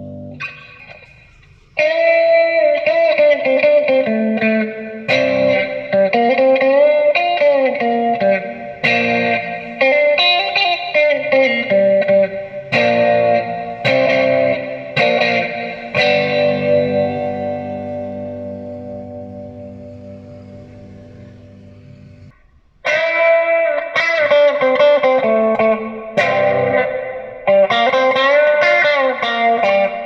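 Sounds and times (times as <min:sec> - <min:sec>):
electric guitar playing chords: 0:00.0 - 0:30.0.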